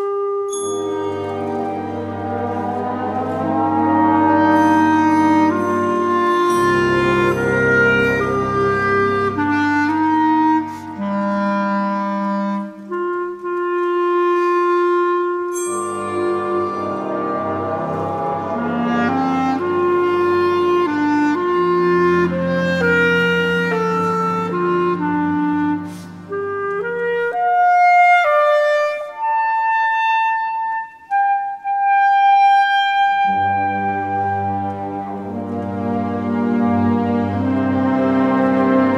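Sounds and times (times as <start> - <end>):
clarinet playing long notes: 0.0 - 38.9
symphony orchestra: 0.0 - 38.9.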